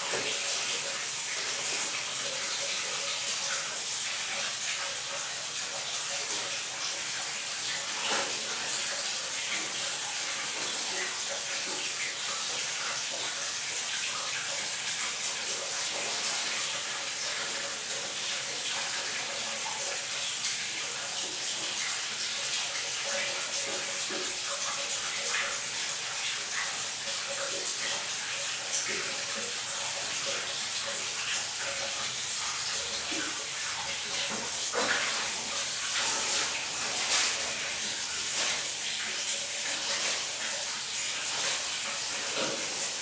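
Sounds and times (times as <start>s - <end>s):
water running steadily: 0.0s - 43.0s.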